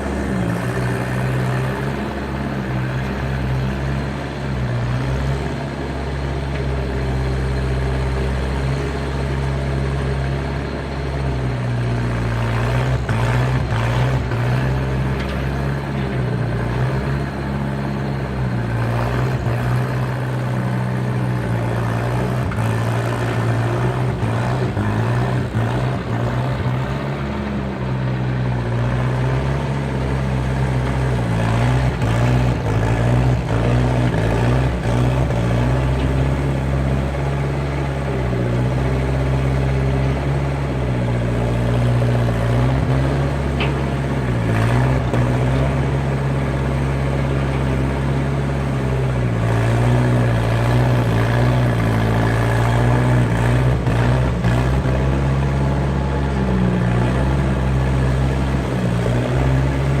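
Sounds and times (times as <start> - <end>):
skid steer engine running: 0.0 - 60.0.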